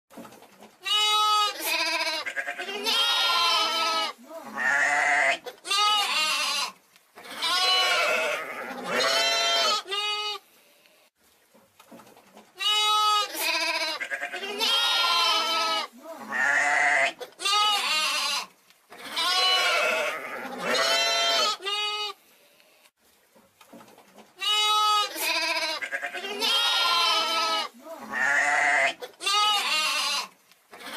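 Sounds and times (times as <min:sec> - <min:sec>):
sheep bleating: 0:00.9 - 0:10.4, 0:12.6 - 0:22.2, 0:24.4 - 0:30.9.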